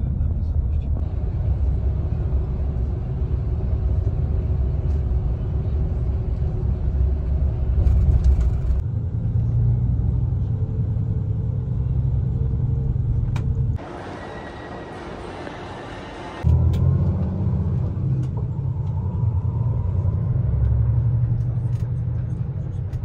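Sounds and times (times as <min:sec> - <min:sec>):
vehicle road noise rumble: 0:00.0 - 0:23.0.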